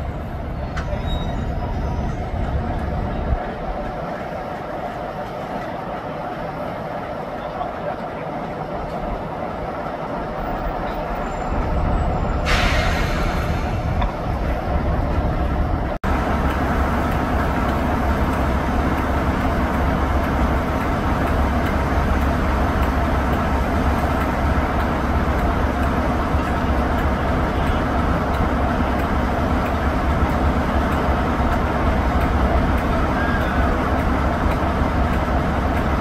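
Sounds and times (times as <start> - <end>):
diesel locomotive engine droning: 0.0 - 36.0.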